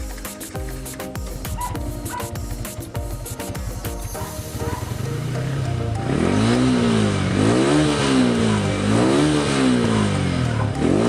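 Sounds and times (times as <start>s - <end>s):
motorcycle engine revving: 0.7s - 11.0s.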